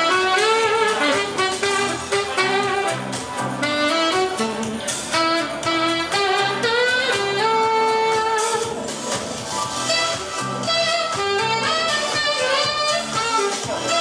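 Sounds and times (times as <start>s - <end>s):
jazz music with saxophone: 0.0s - 14.0s.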